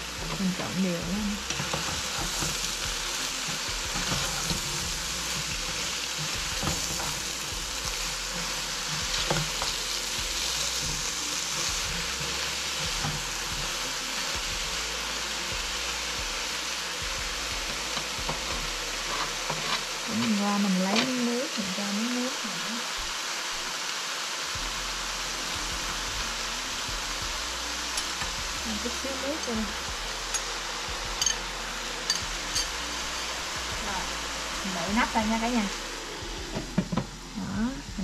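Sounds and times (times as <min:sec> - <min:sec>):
food sizzling in frying pan: 0:00.0 - 0:38.0.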